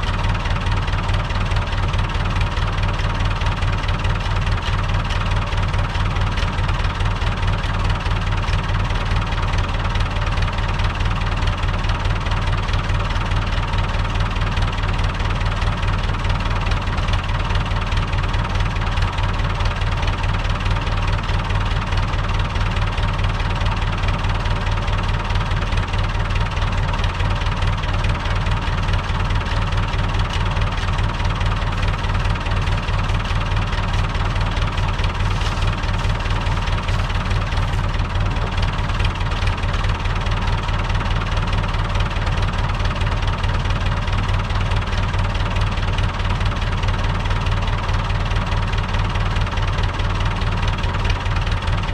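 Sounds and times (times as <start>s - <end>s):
tractor diesel engine droning: 0.0s - 51.9s.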